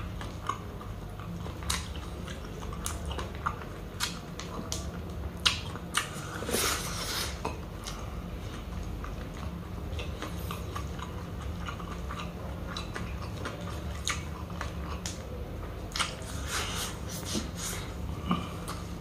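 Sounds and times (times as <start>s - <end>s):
close chewing with mouth smacks: 0.0s - 19.0s.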